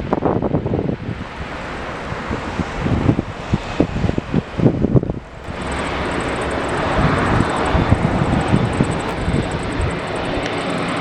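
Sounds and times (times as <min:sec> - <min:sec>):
jet aircraft engines: 0:00.0 - 0:11.0
wind buffeting microphone: 0:00.0 - 0:11.0.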